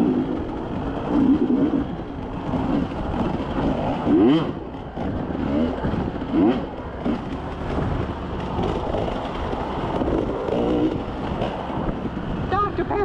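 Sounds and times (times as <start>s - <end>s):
engine revving: 0.0s - 12.6s
off-road vehicle engine: 0.0s - 13.0s.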